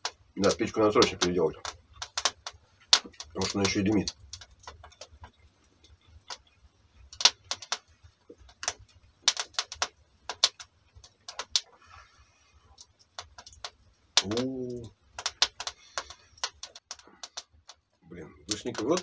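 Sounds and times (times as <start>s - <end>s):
wood crackling in a stove: 0.0s - 19.0s.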